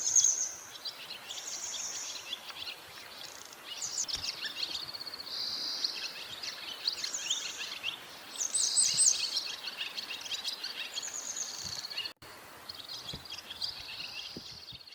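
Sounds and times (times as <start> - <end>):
swallows twittering: 0.0 - 14.9.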